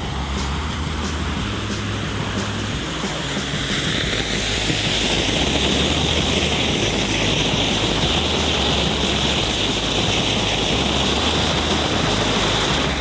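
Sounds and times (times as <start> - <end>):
fountain fireworks hissing: 0.0 - 13.0.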